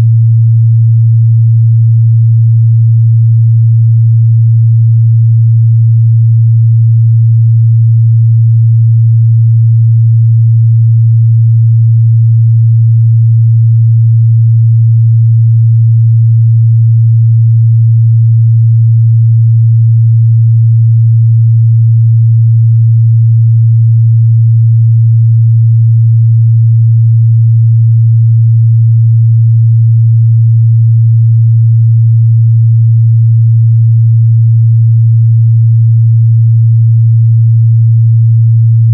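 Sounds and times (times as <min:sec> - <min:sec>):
low sine test tone: 0:00.0 - 0:38.9.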